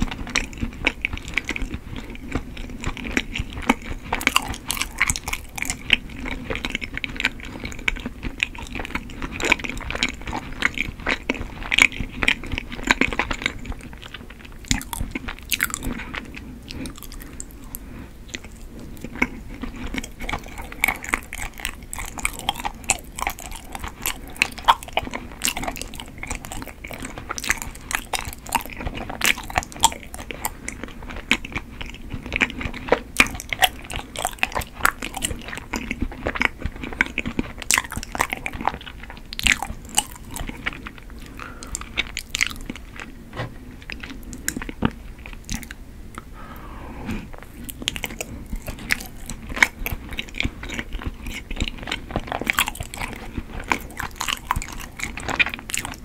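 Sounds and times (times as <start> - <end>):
chewing with wet mouth clicks: 0.0 - 46.3, 47.3 - 56.0.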